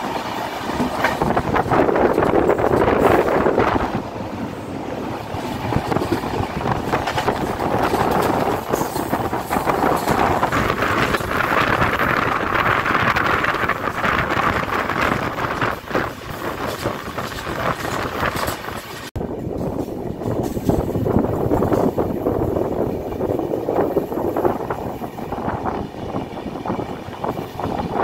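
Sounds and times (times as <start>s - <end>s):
train rolling noise: 0.0s - 28.0s
wheels clattering on rails: 0.0s - 28.0s
wind rushing over microphone: 0.0s - 28.0s.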